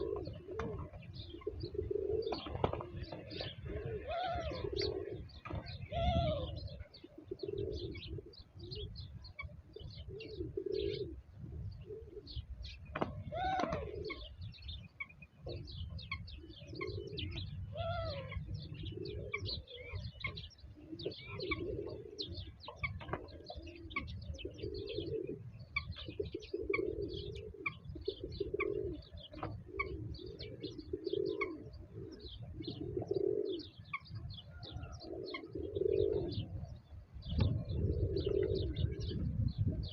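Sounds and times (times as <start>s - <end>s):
pigeons cooing: 0.0s - 39.9s
small birds chirping: 0.0s - 39.9s.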